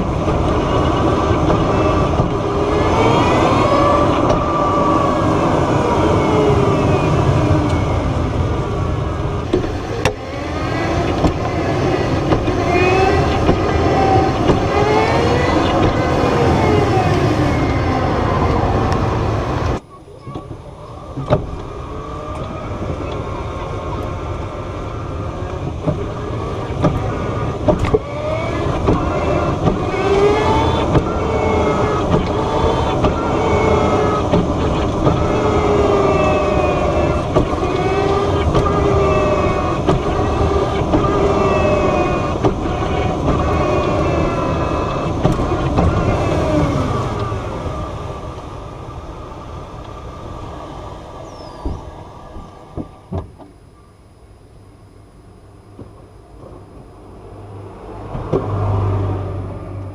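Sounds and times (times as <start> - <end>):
electric car motor whining: 0.0 - 59.9.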